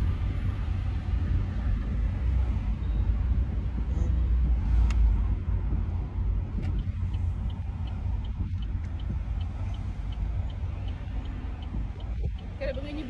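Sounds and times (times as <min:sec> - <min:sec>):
car cabin road rumble: 0:00.0 - 0:13.0
turn signal ticking: 0:00.0 - 0:13.0.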